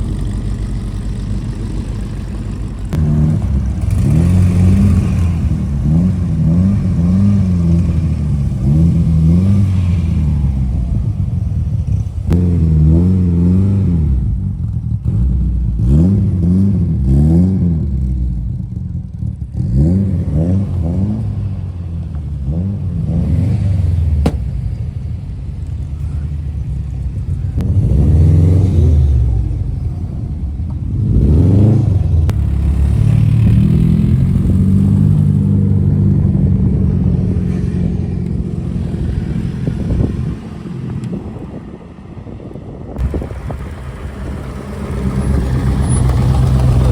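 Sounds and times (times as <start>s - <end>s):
vehicle engine idling and revving: 0.0s - 46.9s.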